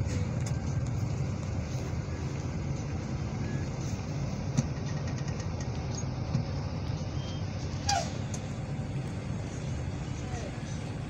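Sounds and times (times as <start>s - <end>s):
vehicle road and engine noise: 0.0s - 11.0s.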